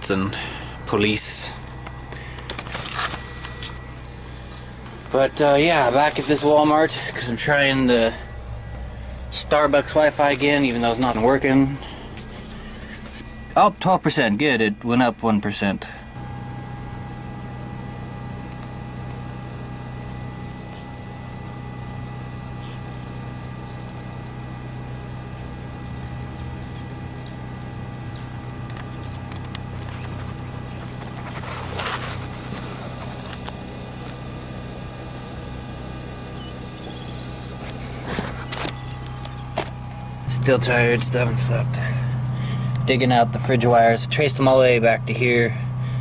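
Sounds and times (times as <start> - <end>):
portable generator running: 0.0 - 46.0.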